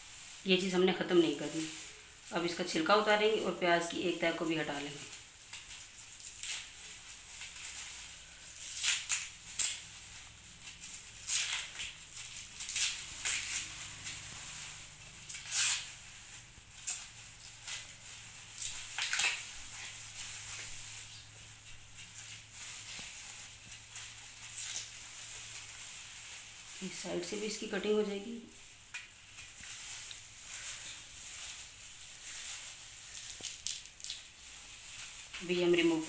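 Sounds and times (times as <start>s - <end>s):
onion skin crackling: 0.0s - 36.0s
plastic gloves crinkling: 0.0s - 36.0s.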